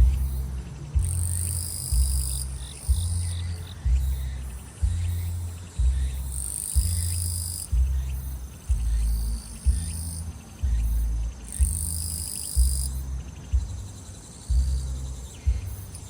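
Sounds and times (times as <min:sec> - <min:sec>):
grass insects singing shrilly: 0:00.0 - 0:13.0
deep bass thump from music: 0:00.0 - 0:16.0
rapid pulsing insect trill: 0:00.0 - 0:16.0.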